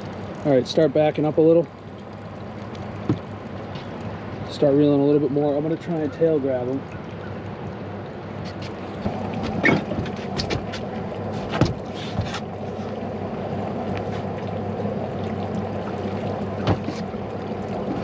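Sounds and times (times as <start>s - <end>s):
boat engine idling: 0.0s - 18.0s
water splashes and knocks: 0.0s - 18.0s.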